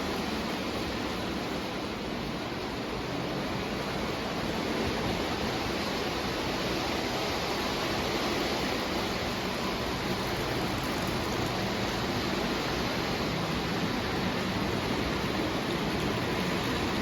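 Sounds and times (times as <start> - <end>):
model train rumbling on track: 0.0 - 17.0.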